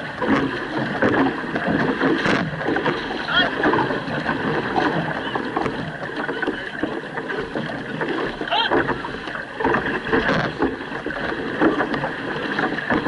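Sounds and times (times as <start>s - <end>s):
paddles splashing in water: 0.0s - 13.0s
water rushing along hull: 0.0s - 13.0s.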